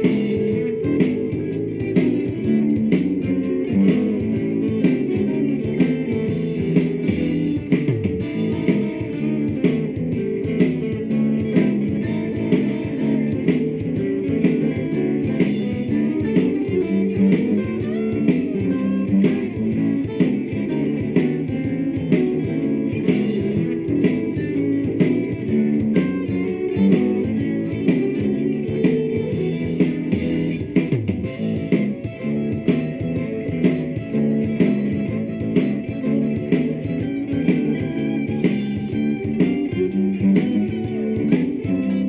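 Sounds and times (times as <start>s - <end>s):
blues backing track with beat: 0.0s - 42.0s
electric guitar playing blues: 0.0s - 42.0s.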